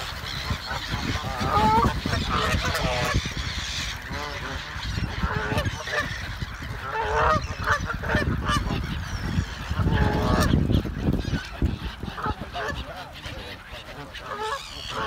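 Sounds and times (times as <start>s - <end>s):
water birds honking: 0.0s - 15.0s.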